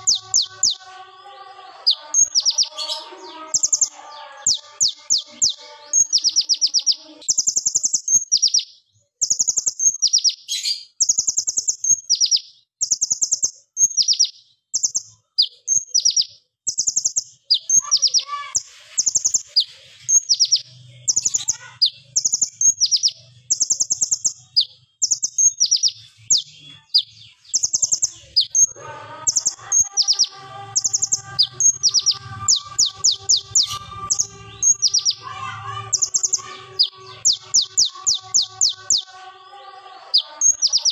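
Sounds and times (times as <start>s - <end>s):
sunbird singing rapid high notes: 0.0s - 40.9s.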